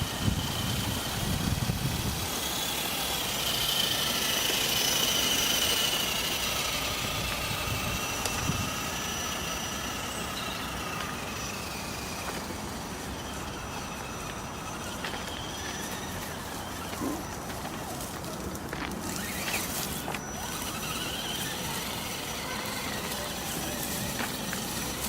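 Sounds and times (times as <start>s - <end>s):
toy car motor whining: 0.0s - 25.0s.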